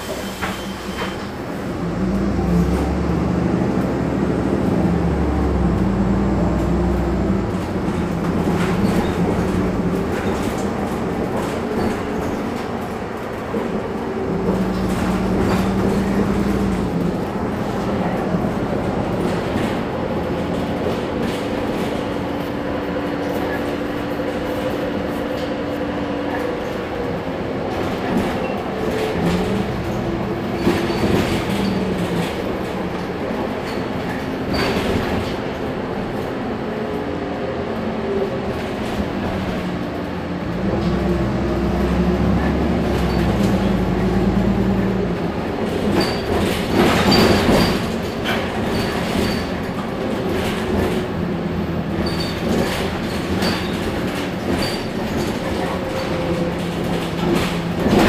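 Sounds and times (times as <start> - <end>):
bus engine accelerating: 0.0 - 58.0.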